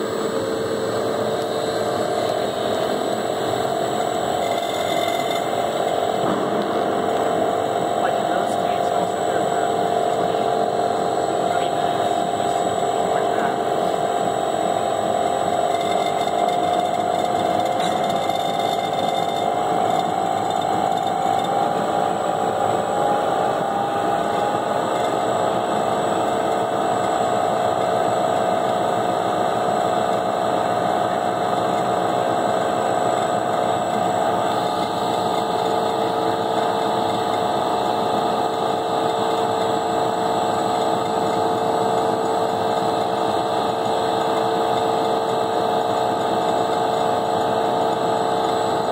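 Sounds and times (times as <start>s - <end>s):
mixer motor humming: 0.0s - 48.9s.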